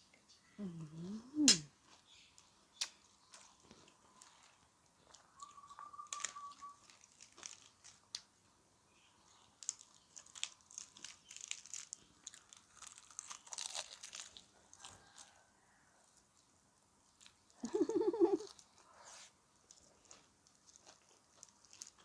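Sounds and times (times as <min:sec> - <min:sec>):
crunchy chewing: 0:01.7 - 0:08.4, 0:09.2 - 0:16.5, 0:17.1 - 0:22.0.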